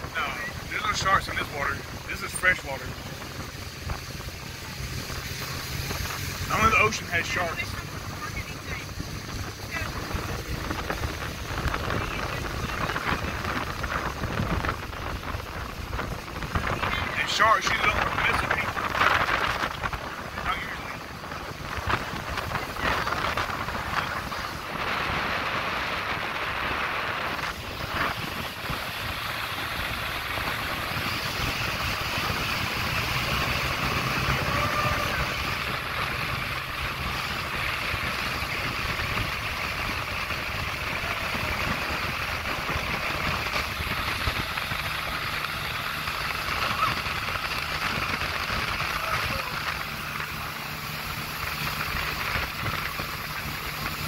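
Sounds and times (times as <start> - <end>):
motorboat engine drone: 0.0 - 54.0
water rushing off hull: 0.0 - 54.0.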